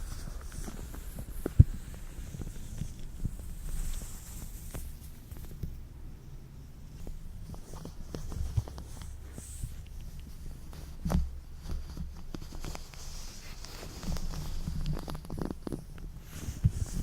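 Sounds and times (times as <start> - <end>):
latex gloves rubbing and crinkling: 0.0 - 5.8, 6.9 - 17.0.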